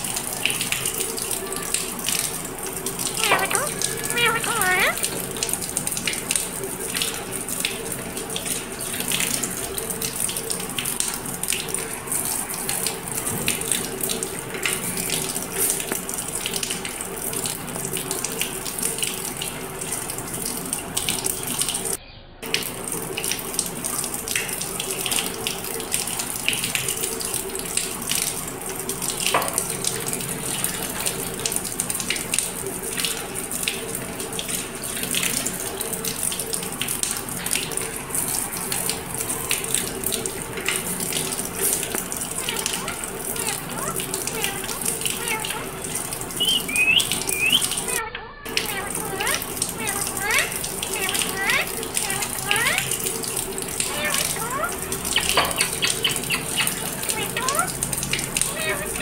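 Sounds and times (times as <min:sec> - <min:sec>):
running water pouring: 0:00.0 - 0:59.0.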